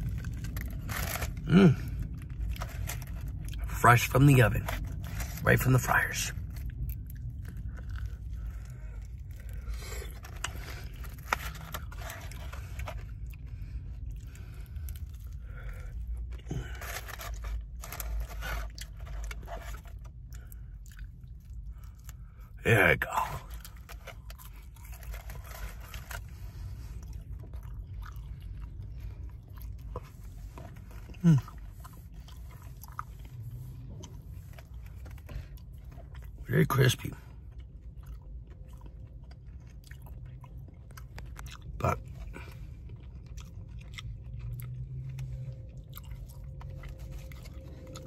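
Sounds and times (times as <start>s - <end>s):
person chewing crispy fried chicken: 0.0s - 48.0s
steady low hum: 0.0s - 48.0s.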